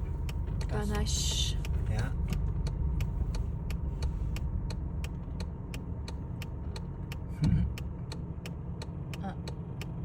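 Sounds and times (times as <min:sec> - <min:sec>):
car engine idling: 0:00.0 - 0:10.0
even ticking: 0:00.0 - 0:10.0.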